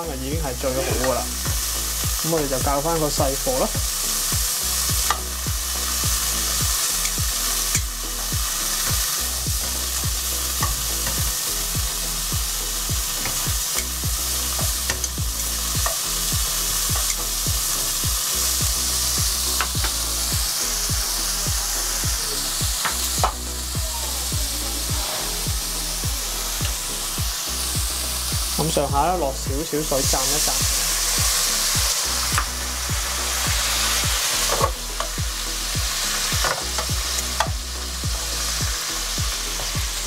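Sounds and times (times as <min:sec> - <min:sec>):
vegetables sizzling in a pan: 0:00.0 - 0:40.0.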